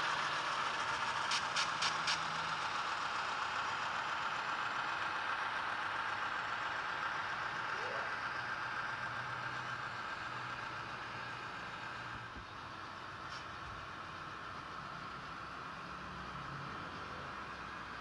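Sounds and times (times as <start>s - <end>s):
model locomotive diesel engine sound: 0.0s - 18.0s.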